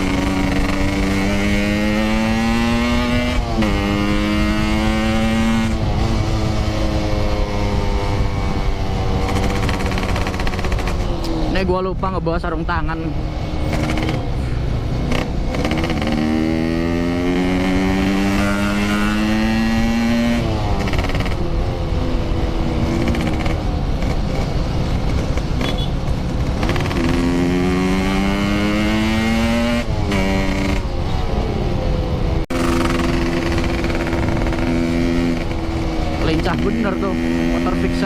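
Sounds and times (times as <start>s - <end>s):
two-stroke motorcycle accelerating: 0.0s - 38.0s
wind and road rumble: 0.0s - 38.0s.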